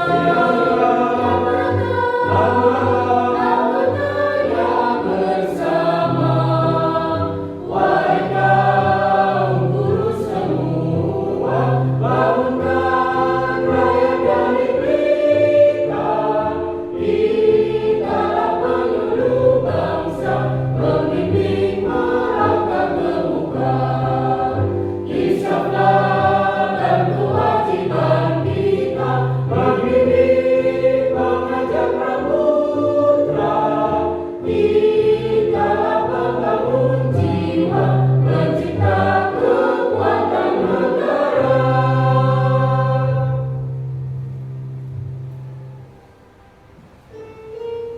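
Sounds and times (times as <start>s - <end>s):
choir singing: 0.0s - 44.0s
instrumental accompaniment: 0.0s - 47.9s.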